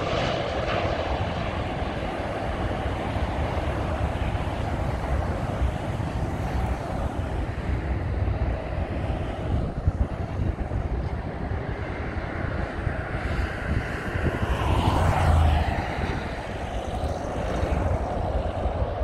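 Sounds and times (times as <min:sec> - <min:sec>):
jet engine rush of landing airliner: 0:00.0 - 0:19.0
wind buffeting microphone: 0:00.0 - 0:19.0.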